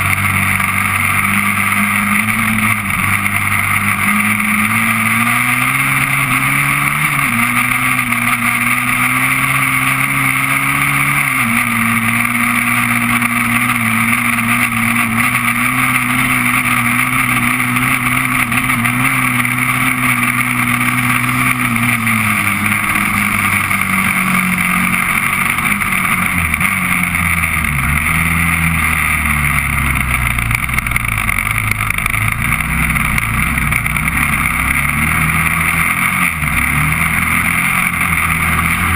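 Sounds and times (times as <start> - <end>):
quad engine running: 0.0 - 38.9.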